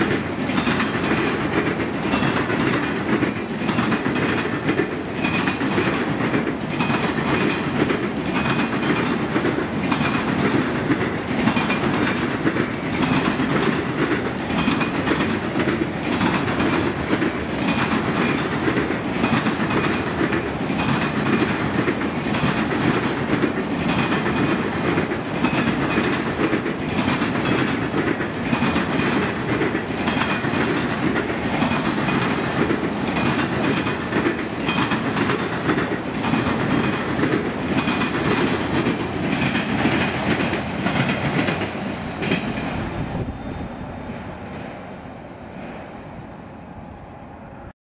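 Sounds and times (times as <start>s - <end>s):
clickety-clack over rail joints: 0.0s - 46.4s
train wheels rumbling: 0.0s - 47.7s.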